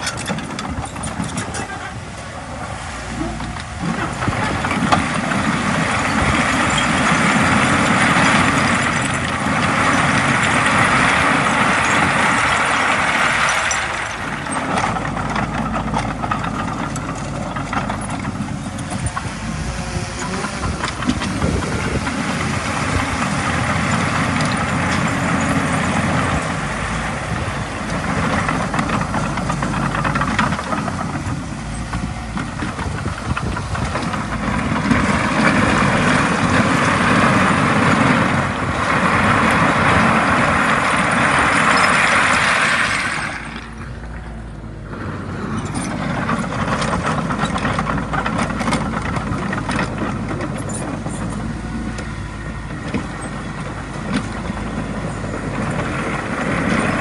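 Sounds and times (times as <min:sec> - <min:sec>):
bulldozer diesel engine pushing soil: 0:00.0 - 0:57.0.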